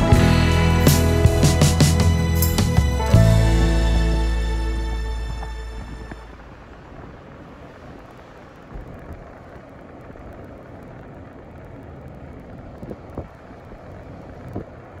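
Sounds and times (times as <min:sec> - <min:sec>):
car road and tyre noise: 0:02.2 - 0:15.0.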